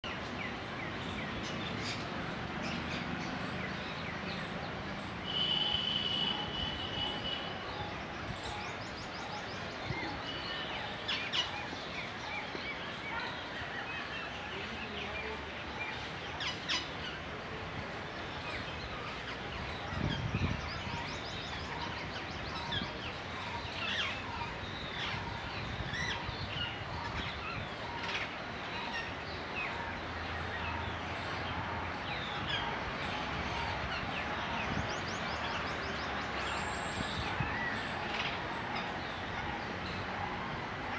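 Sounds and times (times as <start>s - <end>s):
birds chirping and trilling: 0.0s - 40.9s
outdoor background noise: 0.0s - 40.9s.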